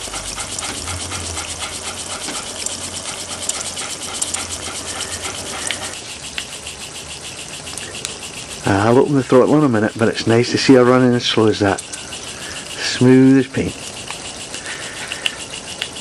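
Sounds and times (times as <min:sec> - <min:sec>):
steady steam hiss: 0:00.0 - 0:16.0
toy steam engine chuffing: 0:00.0 - 0:16.0.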